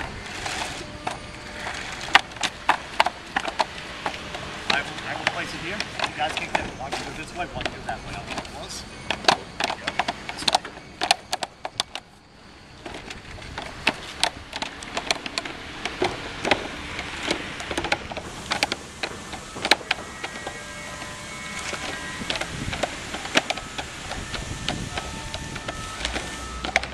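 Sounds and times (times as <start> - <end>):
plastic panels clicking and clacking: 0.0 - 12.1, 12.8 - 26.9.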